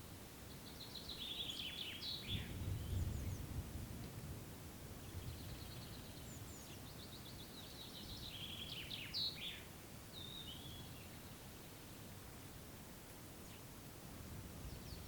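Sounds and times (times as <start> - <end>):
songbird singing: 0.0 - 4.2, 4.9 - 12.7, 13.4 - 13.8, 14.6 - 15.0.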